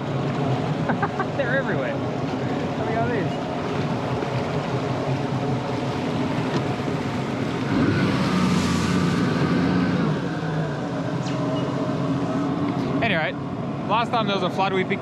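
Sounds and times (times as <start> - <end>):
jet ski engine: 0.0 - 15.0
water: 0.0 - 15.0.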